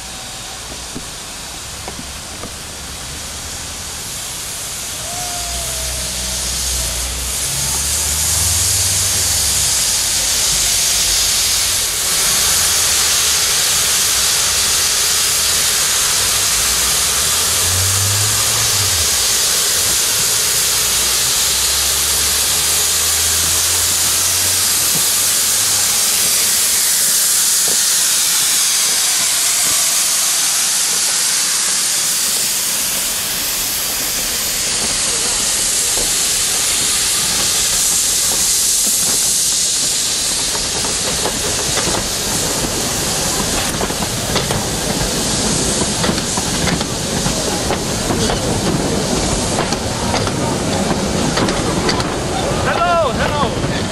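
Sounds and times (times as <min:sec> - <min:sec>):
steam locomotive venting steam: 0:00.0 - 0:53.9.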